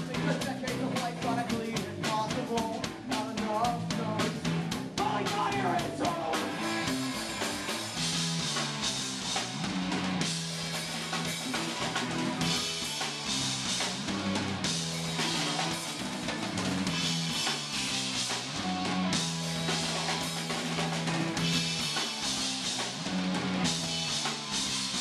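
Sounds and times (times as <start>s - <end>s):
punk rock band playing live: 0.0s - 25.0s.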